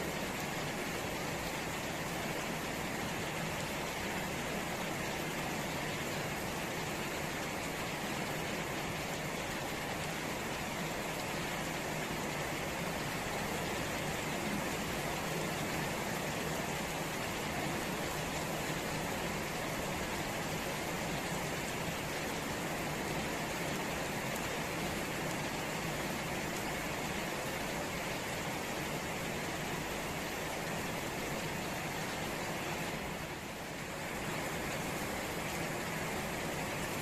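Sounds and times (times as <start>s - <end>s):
rain falling on leaves: 0.0s - 37.0s.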